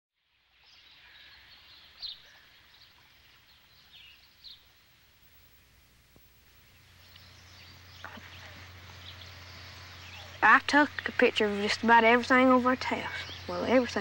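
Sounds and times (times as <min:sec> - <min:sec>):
small birds chirping: 0:00.3 - 0:14.0
low hum: 0:01.1 - 0:14.0.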